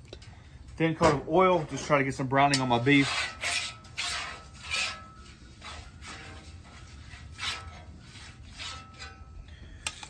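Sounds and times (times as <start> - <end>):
metal spatula scraping steel griddle: 1.1 - 10.0.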